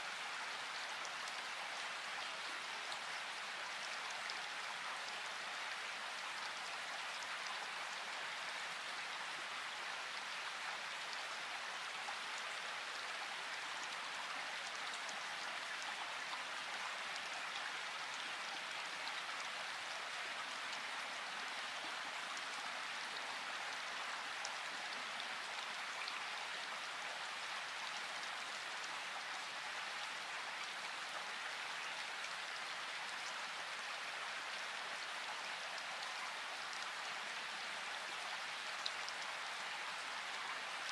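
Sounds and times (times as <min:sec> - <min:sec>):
rain-like hiss: 0:00.0 - 0:40.9.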